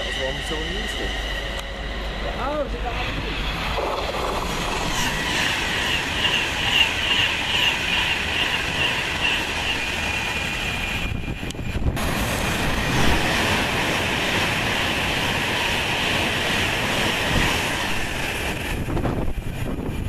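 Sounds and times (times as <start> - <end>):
electric train rushing past: 0.0 - 20.0.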